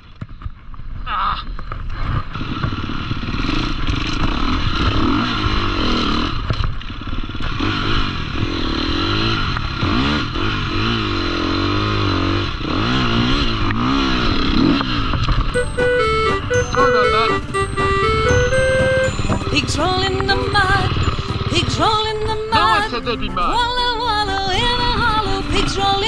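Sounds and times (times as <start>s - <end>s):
dirt bike engine revving: 2.0s - 26.0s.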